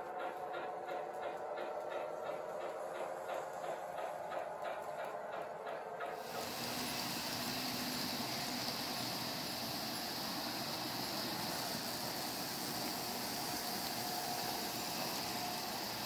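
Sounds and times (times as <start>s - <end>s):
model trains rolling on rails: 0.0s - 16.0s.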